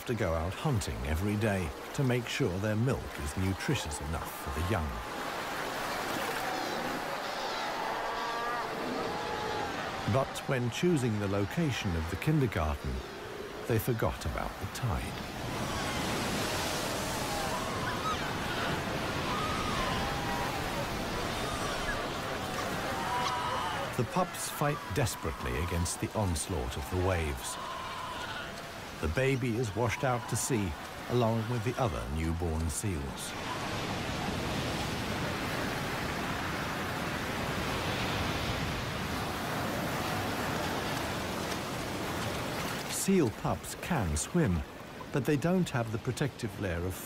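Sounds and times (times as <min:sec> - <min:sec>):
surf breaking: 0:00.0 - 0:45.4.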